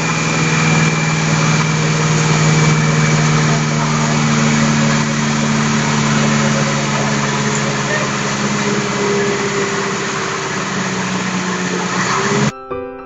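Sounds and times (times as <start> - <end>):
concrete pouring down chute: 0.0 - 12.5
diesel truck engine running: 0.0 - 12.5.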